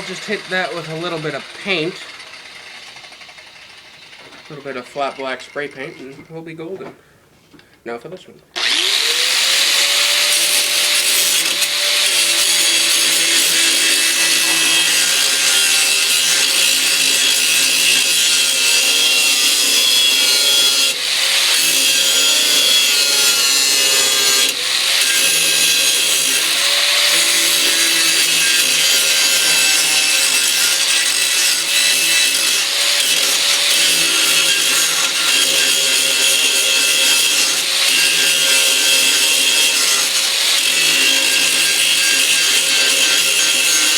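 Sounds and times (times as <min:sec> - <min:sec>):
angle grinder grinding metal: 0:00.0 - 0:06.8, 0:08.6 - 0:43.9.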